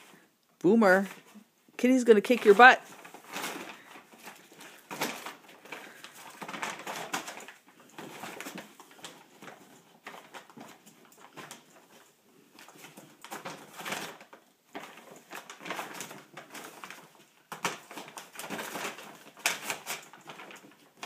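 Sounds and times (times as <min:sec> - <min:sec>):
paper bag crinkling: 0:00.8 - 0:21.0
kitten scuffling in bag: 0:02.3 - 0:21.0.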